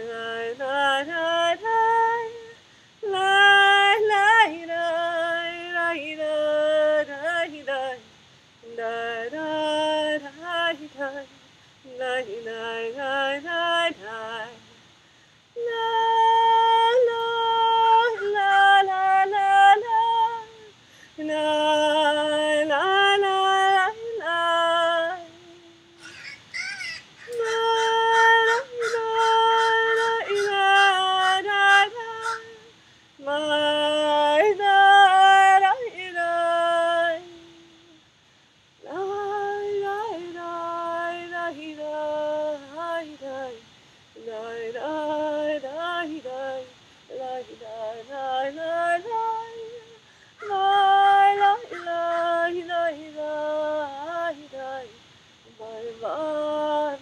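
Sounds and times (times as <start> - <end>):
woman singing wordless melody: 0.0 - 57.0.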